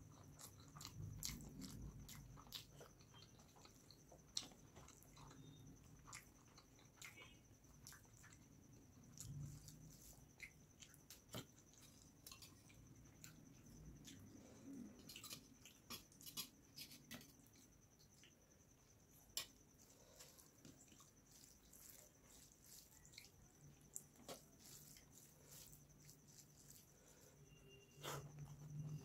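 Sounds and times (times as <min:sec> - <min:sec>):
faint high whine: 0:00.0 - 0:29.0
fingers squishing rice and curry: 0:00.0 - 0:29.0.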